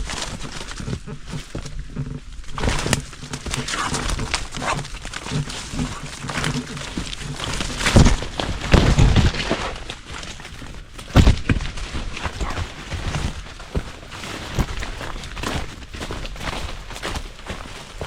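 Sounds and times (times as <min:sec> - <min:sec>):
branches cracking: 0:00.0 - 0:18.0
footsteps on dead wood: 0:00.0 - 0:18.0.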